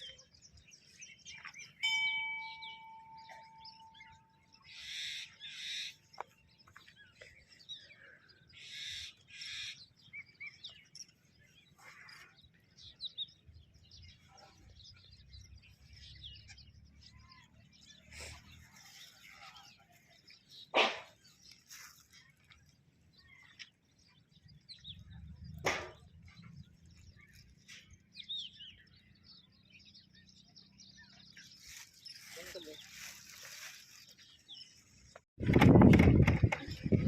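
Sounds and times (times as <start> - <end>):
birds chirping and calling: 0.0 - 37.0.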